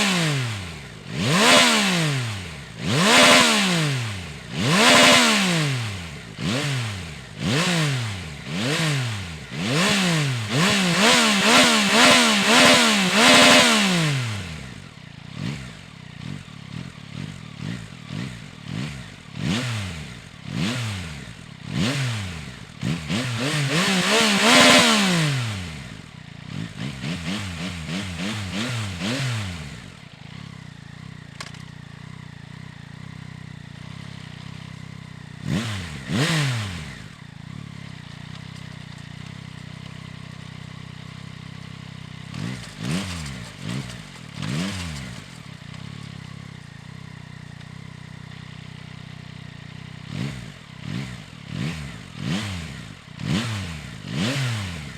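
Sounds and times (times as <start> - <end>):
motorcycle engine idling: 0.0 - 54.9
motorcycle engine revving: 0.0 - 54.9.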